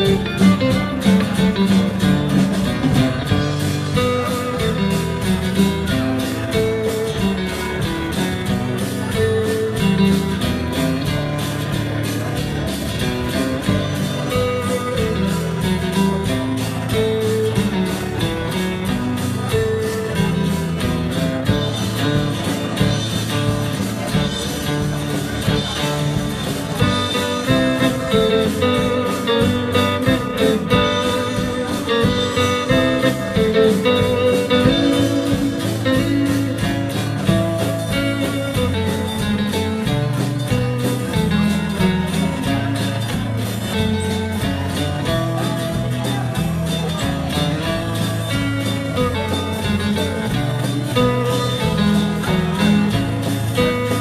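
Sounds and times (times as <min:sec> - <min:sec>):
electric bass: 0:00.0 - 0:54.0
electric lead guitar melody: 0:00.0 - 0:54.0
rhythm guitar: 0:00.0 - 0:54.0
steady drum beat: 0:00.0 - 0:54.0.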